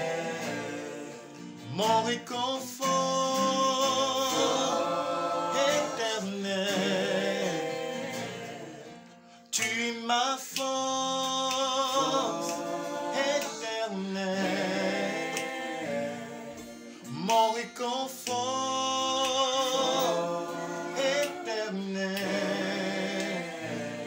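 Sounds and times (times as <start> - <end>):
group singing gospel in harmony: 0.0 - 24.0.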